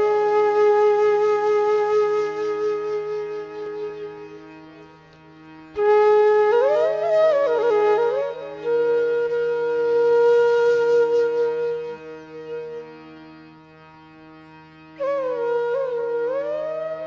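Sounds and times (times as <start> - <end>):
flute melody: 0.0 - 5.0, 5.7 - 13.5, 14.9 - 17.0
steady drone: 0.0 - 17.0.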